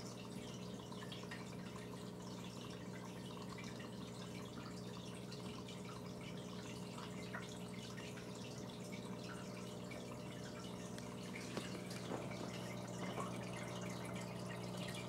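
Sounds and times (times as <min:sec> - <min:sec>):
water bubbling and trickling: 0:00.0 - 0:15.0.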